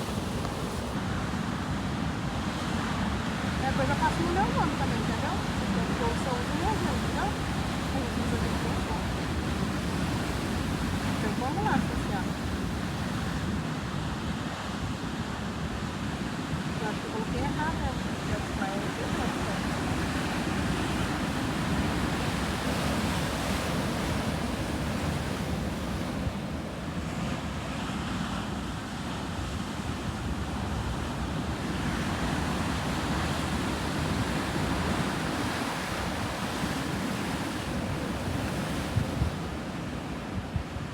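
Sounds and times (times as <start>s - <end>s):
sea waves breaking on shore: 0.0s - 40.9s
wind on microphone: 0.0s - 40.9s.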